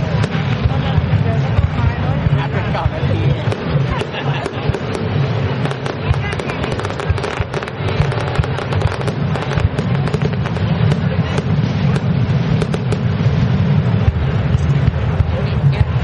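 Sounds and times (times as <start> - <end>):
fireworks crackling pops: 0.0 - 16.0
low rumble: 0.0 - 16.0.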